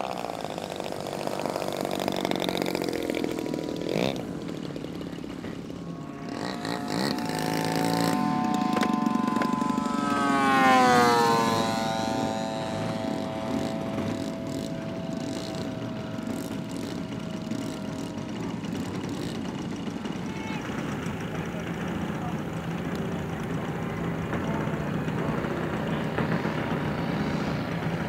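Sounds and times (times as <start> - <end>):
model plane propeller engine: 0.0 - 28.0.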